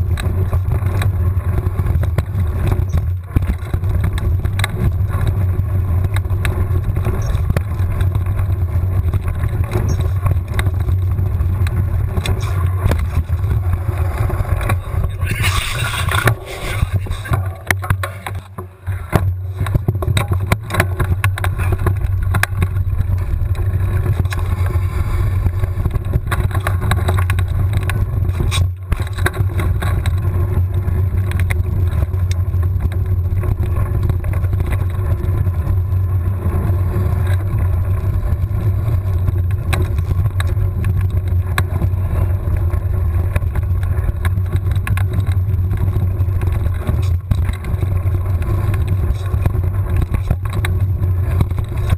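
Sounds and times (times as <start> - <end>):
bike tyres rattling on dirt: 0.0 - 51.9
wind buffeting microphone: 0.0 - 51.9.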